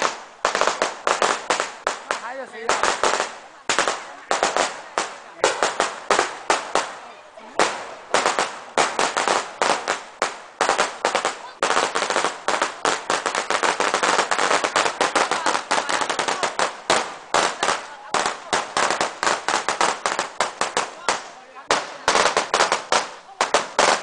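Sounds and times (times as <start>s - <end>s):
firecrackers crackling: 0.0s - 24.0s.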